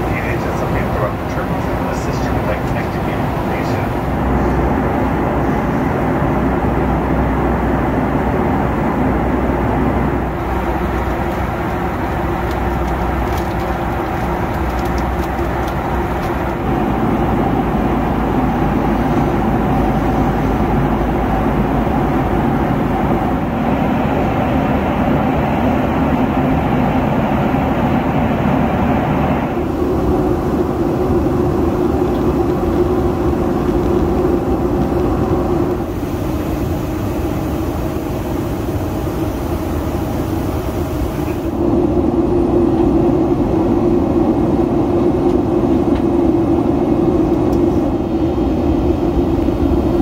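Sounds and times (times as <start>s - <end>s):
jet engine and airflow noise: 0.0s - 50.0s.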